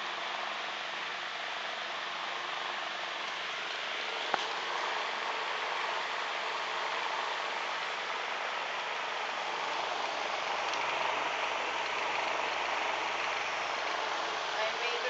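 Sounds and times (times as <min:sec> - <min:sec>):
humidifier hissing: 0:00.0 - 0:15.0.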